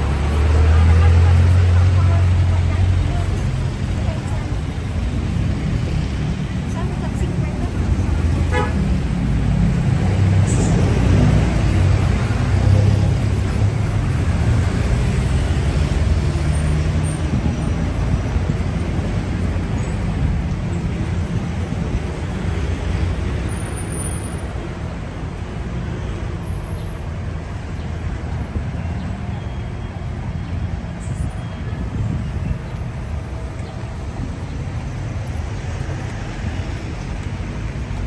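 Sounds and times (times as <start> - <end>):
city street traffic: 0.0 - 38.0.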